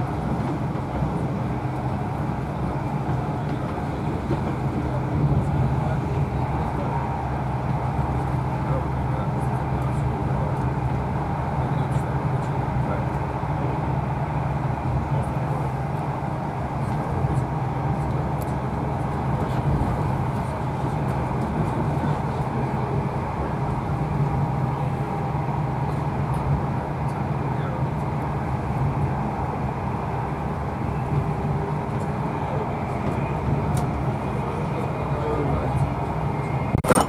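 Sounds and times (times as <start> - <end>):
train running low rumble: 0.0 - 37.0.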